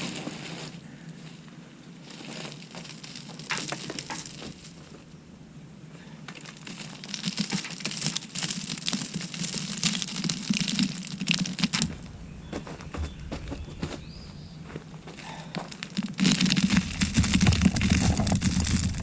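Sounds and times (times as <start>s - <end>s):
mulch crunching and rustling: 0.0s - 5.1s, 6.3s - 14.1s, 15.0s - 19.0s.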